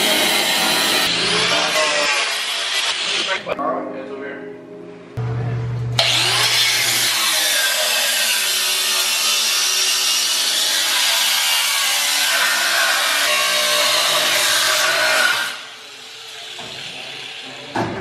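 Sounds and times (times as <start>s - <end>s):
angle grinder cutting steel: 0.0s - 3.5s, 6.0s - 17.7s.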